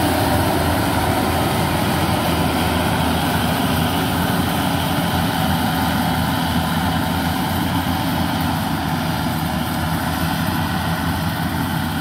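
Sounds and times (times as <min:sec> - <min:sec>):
combine harvester diesel engine: 0:00.0 - 0:12.0.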